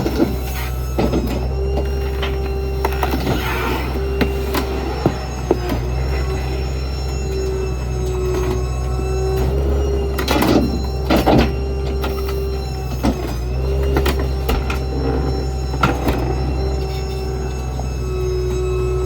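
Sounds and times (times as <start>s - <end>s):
garbage truck humming and whining: 0.0s - 19.0s.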